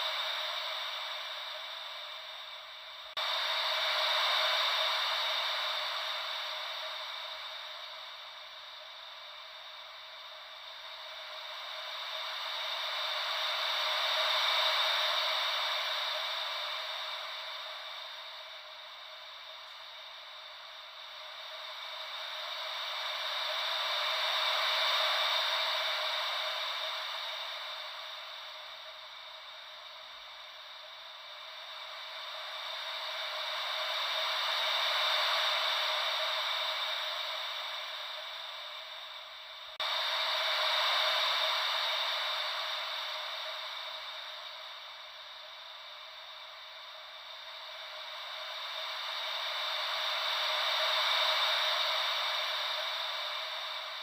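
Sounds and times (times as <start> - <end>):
white noise like ocean waves: 0.0 - 54.0.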